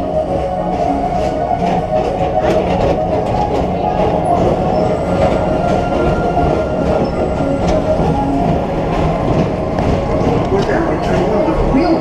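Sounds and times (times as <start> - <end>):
ride cars rumbling on track: 0.0 - 12.0.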